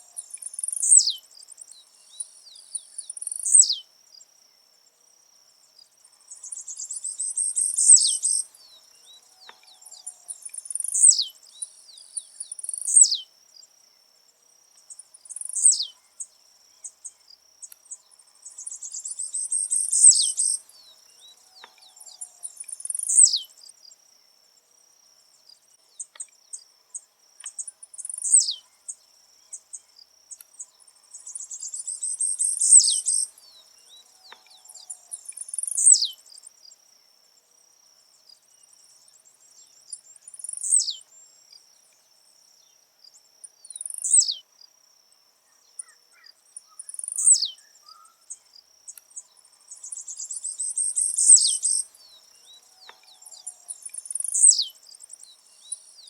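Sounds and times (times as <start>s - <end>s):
bird singing buzzy song: 0.0s - 56.0s
high insect trill: 0.0s - 56.0s.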